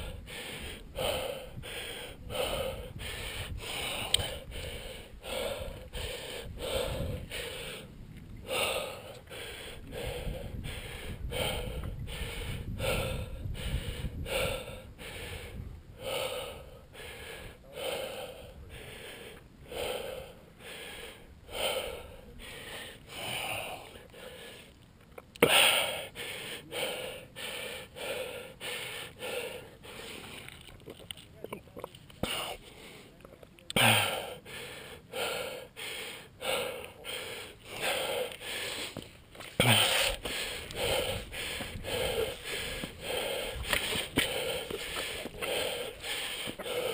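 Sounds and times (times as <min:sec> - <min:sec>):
man breathing hard: 0:00.0 - 0:24.8, 0:25.4 - 0:31.2, 0:32.2 - 0:46.9.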